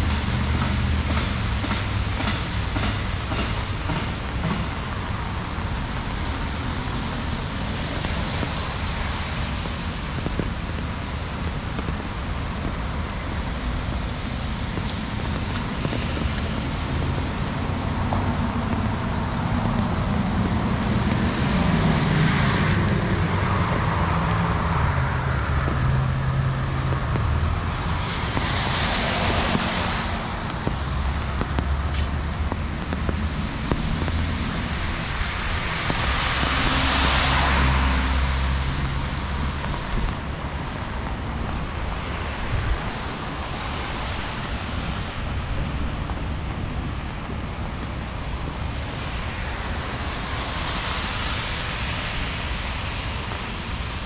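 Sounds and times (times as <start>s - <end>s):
steady rain: 0.0s - 54.0s
tyre hiss on wet road: 0.0s - 54.0s.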